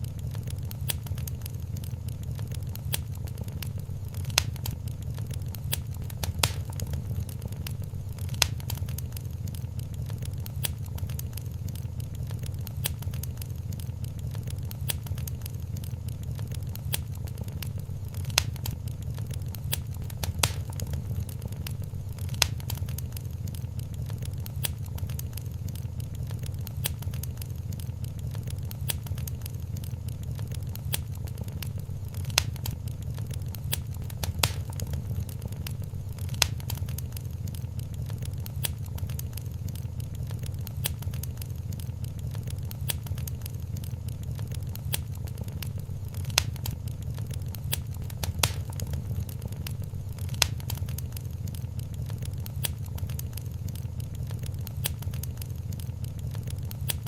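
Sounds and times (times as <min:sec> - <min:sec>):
sharp fire pops: 0:00.0 - 0:57.0
wood fire crackling: 0:00.0 - 0:57.0.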